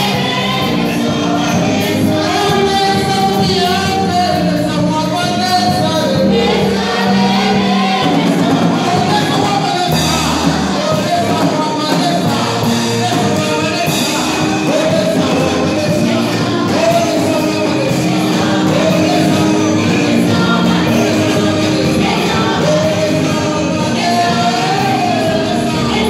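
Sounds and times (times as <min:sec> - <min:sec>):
drum kit: 0:00.0 - 0:26.0
group of singers: 0:00.0 - 0:26.0
keyboard: 0:00.0 - 0:26.0.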